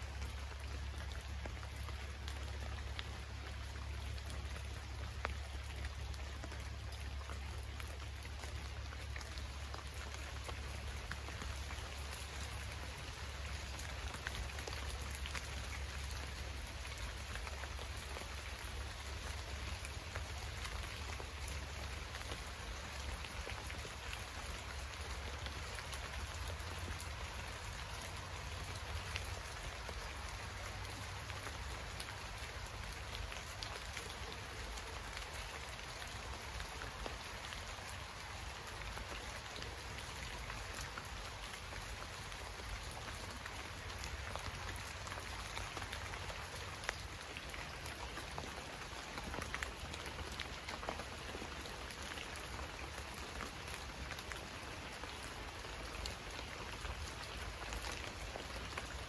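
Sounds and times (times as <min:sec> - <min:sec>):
steady rain patter: 0:00.0 - 0:59.0.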